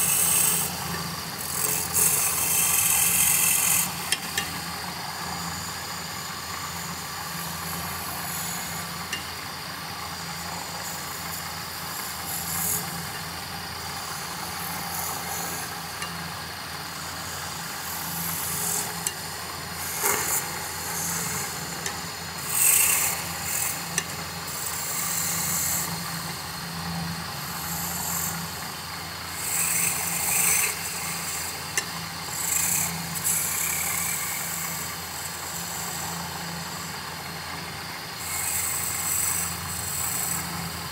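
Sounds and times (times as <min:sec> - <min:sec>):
wood lathe humming: 0:00.0 - 0:40.9.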